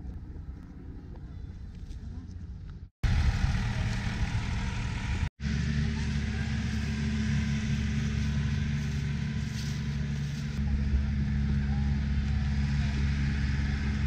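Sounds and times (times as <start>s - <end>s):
tractor engine running: 2.6s - 14.0s.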